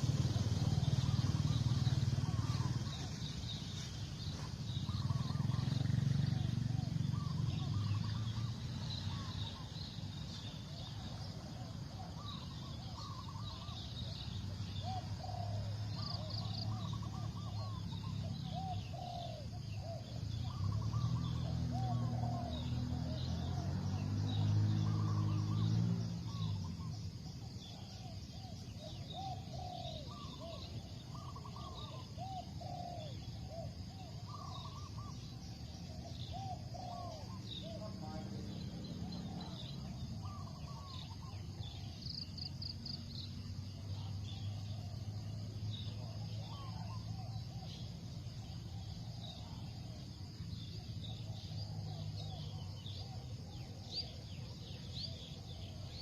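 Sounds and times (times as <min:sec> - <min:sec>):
doves cooing: 0:00.0 - 0:09.8, 0:10.5 - 0:23.7, 0:27.7 - 0:42.0, 0:43.9 - 0:56.0
small birds chirping: 0:00.0 - 0:56.0.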